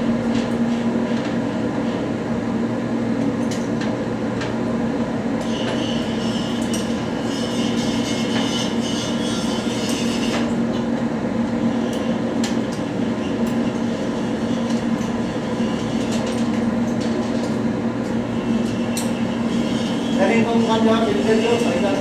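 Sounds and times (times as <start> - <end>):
machine drone with low hum: 0.0 - 22.0.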